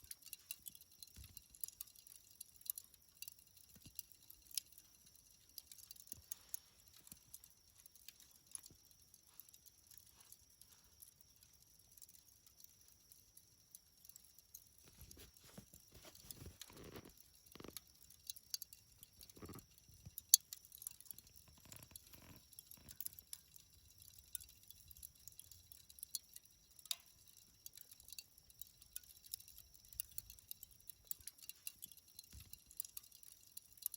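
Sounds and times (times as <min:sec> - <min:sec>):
burning charcoal crackling: 0:00.0 - 0:33.9.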